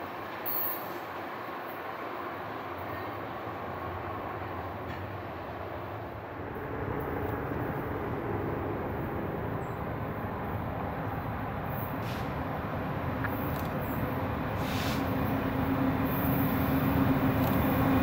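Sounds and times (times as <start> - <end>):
distant train rumble: 0.0 - 18.0.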